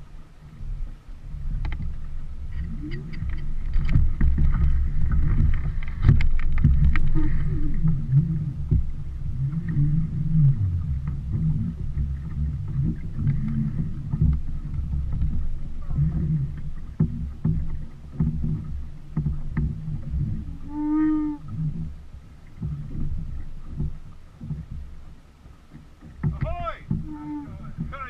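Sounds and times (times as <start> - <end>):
water rushing along hull: 0.0 - 28.0
water splashes: 0.0 - 28.0.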